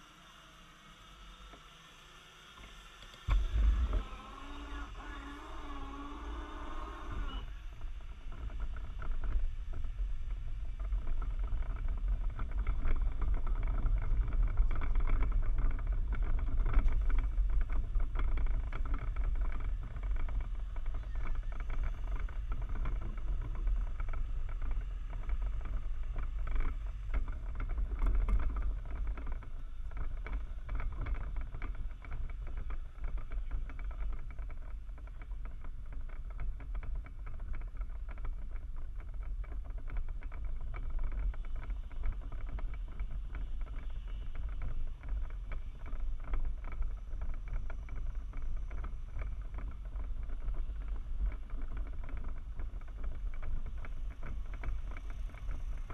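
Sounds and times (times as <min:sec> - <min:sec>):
wind and rolling rumble: 0:03.2 - 0:55.9.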